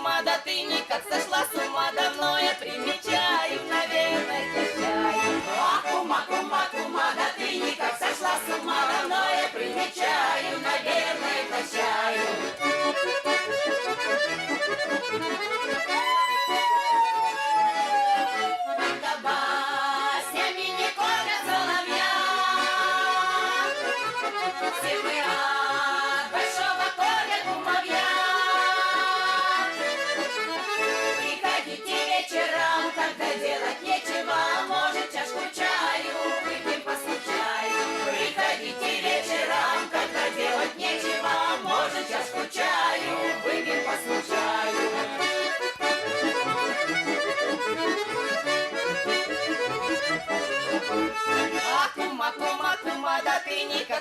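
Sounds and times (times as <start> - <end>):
button accordion playing folk tune: 0.0 - 54.0.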